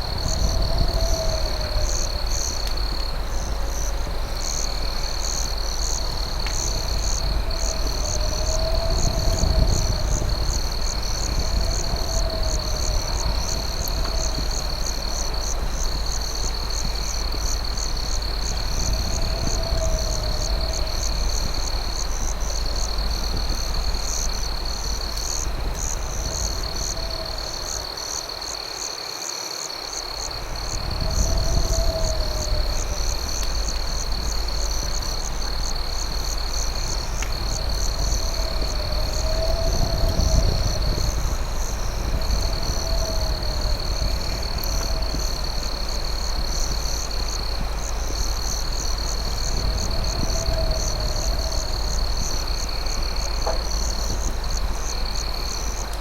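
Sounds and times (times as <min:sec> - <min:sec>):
steady low rumble: 0:00.0 - 0:27.9, 0:30.2 - 0:56.0
crickets trilling: 0:00.0 - 0:56.0.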